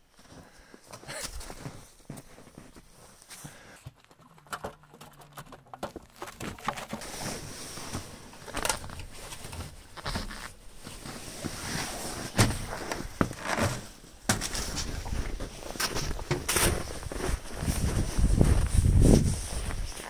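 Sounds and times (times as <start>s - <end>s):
footsteps in snow: 0.1s - 3.6s, 6.9s - 20.0s.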